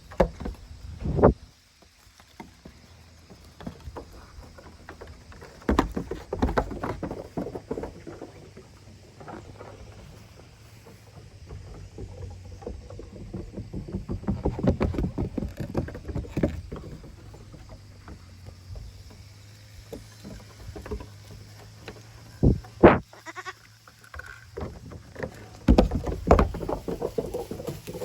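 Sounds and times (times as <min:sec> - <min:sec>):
goat hooves knocking and scuffling: 0:00.0 - 0:28.0.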